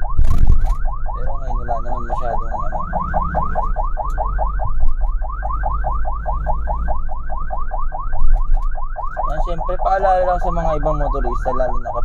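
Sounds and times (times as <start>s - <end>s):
ambulance siren yelping: 0.0s - 12.0s
low engine and road rumble: 0.0s - 12.0s.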